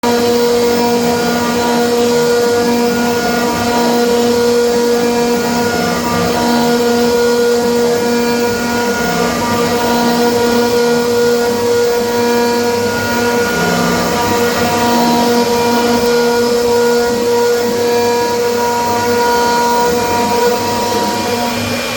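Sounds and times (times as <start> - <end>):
cnc router spindle whine: 0.0 - 21.9
metal cutting noise: 0.0 - 21.9.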